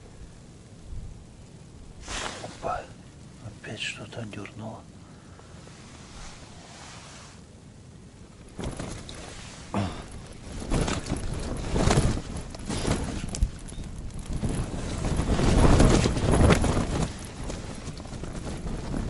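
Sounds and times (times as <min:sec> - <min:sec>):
wind gusts rattling tent fabric: 0:00.0 - 0:19.0.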